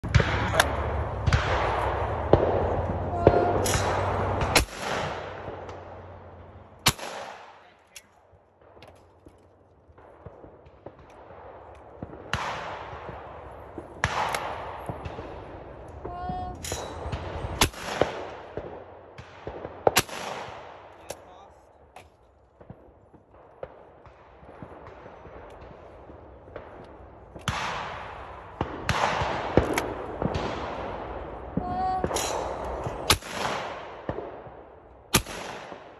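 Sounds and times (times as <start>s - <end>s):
shotgun shots echoing: 0.0s - 9.3s, 9.9s - 35.9s.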